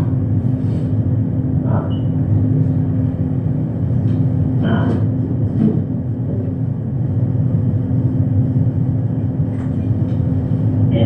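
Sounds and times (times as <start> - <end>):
faint hum: 0.0 - 11.0
steady low rumble: 0.0 - 11.0.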